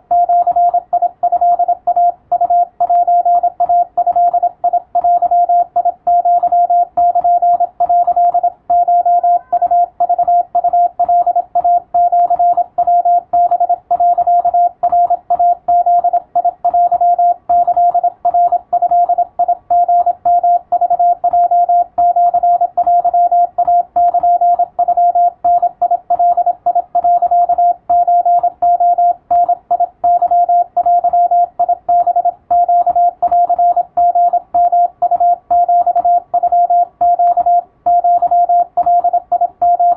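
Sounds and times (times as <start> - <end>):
morse code beeps: 0.1 - 39.9.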